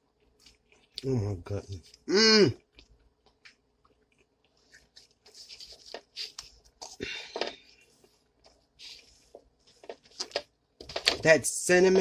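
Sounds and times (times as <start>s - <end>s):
person chewing food: 0.0s - 1.2s, 1.8s - 10.6s.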